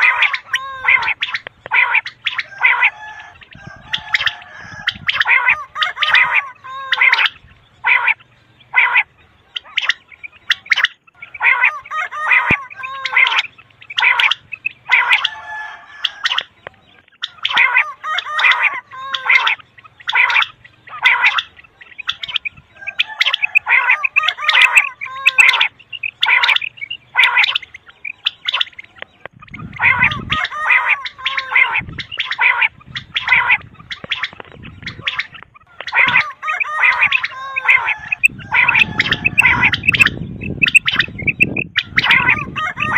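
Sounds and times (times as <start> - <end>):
quail calling: 0.0 - 42.9.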